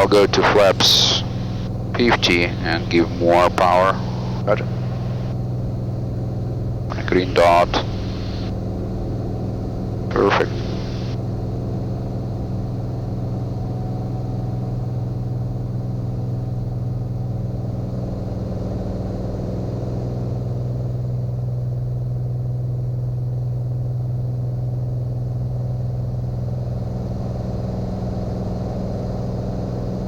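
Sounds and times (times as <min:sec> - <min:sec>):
aircraft engine and propeller droning: 0:00.0 - 0:30.0.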